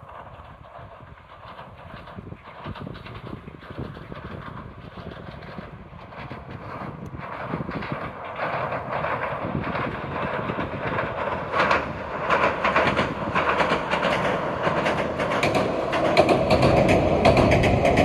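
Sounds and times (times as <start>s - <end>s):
train wheels clattering on bridge: 0.0s - 18.0s.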